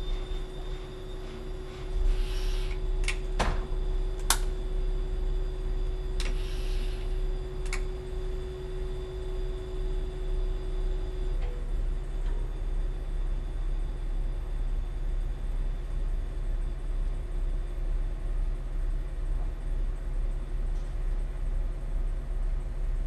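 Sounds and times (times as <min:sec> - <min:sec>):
railcar running rumble: 0:00.0 - 0:23.0
steady hum: 0:00.0 - 0:23.0.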